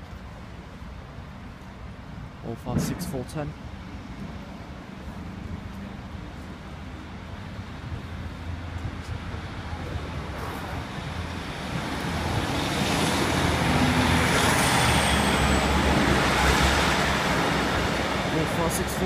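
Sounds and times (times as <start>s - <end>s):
train engine drone: 0.0s - 19.0s
train wheels on rails: 2.6s - 19.0s.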